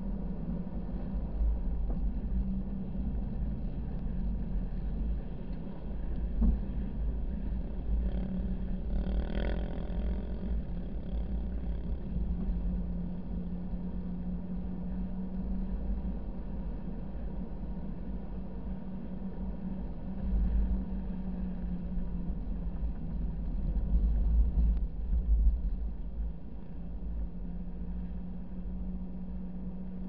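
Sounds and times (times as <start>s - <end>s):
low wind rumble: 0.0s - 30.0s
vehicle engine hum: 0.0s - 30.0s.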